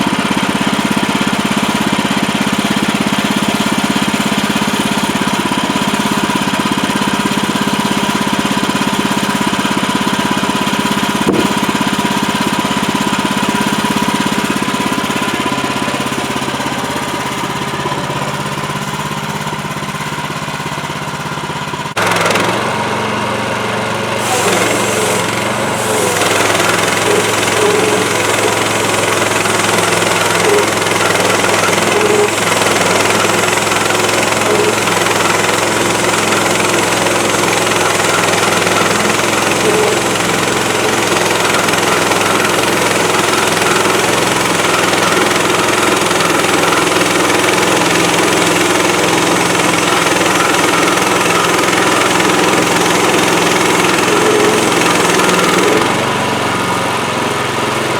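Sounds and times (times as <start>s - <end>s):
sawmill gas engine running: 0.0s - 57.9s.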